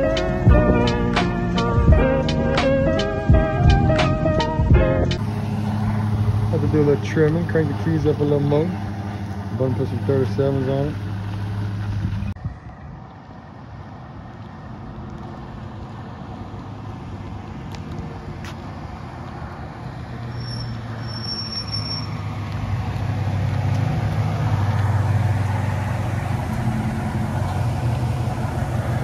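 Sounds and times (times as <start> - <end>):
pickup truck engine approaching: 0.0 - 29.0.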